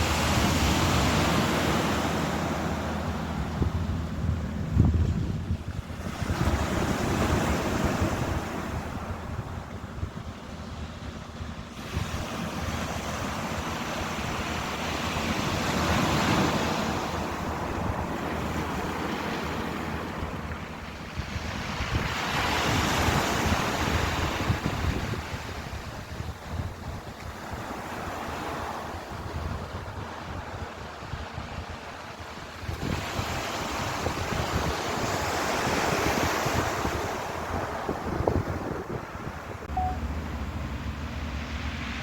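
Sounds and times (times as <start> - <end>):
ocean waves breaking: 0.0 - 42.0
wind rumbling on microphone: 0.0 - 42.0.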